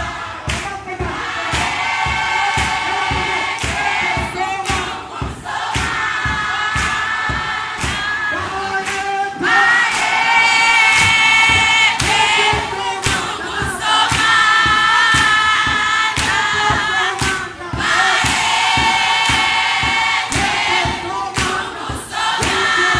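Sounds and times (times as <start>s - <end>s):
beat of sharp hits: 0.0s - 8.6s, 9.7s - 22.9s
choir singing in harmony: 0.0s - 22.9s.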